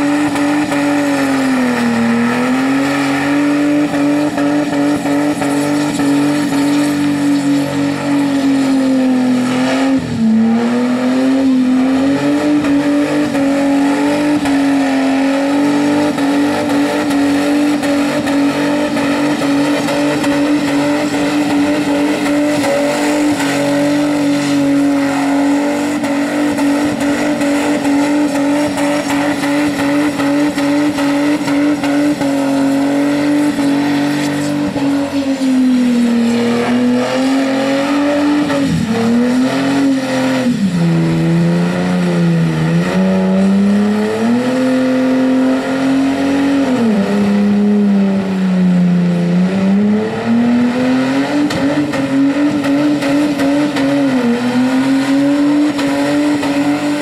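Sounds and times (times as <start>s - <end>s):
tyres spinning on wet road: 0.0s - 47.6s, 49.3s - 57.0s
engine revving high: 0.0s - 57.0s.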